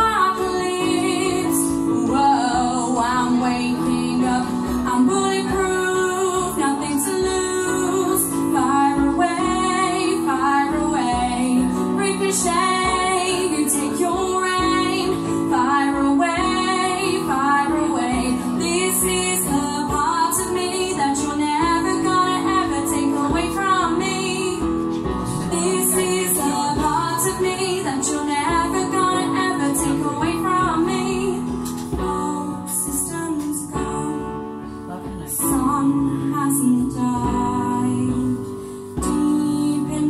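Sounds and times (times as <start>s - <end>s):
held accompaniment chords: 0.0s - 40.0s
woman singing into microphone: 0.0s - 40.0s.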